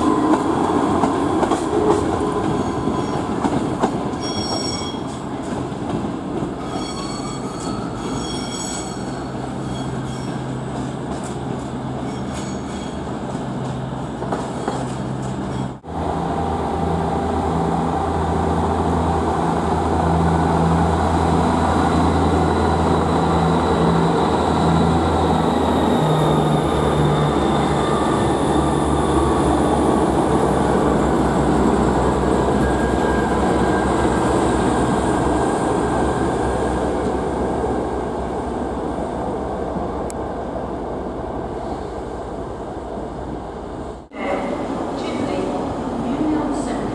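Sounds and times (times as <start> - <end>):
diesel train engines: 0.0 - 46.9.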